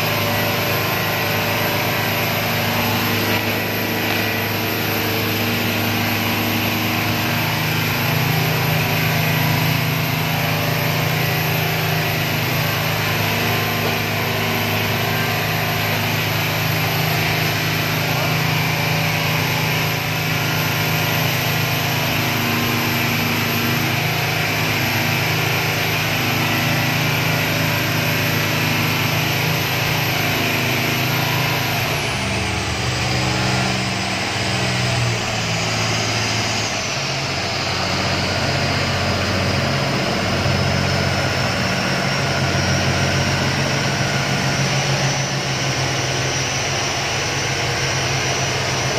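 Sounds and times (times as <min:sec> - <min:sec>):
motorboat engine droning: 0:00.0 - 0:48.9.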